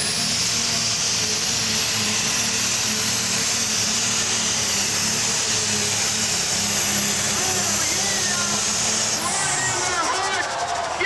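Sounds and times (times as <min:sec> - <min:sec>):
diesel engine running hard: 0:00.0 - 0:11.0
high turbo whine: 0:00.0 - 0:11.0.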